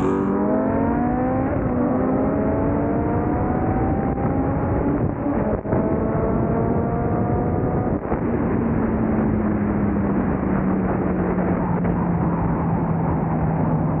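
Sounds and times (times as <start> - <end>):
race car engine at high speed: 0.0 - 14.0
wind and road noise: 0.0 - 14.0.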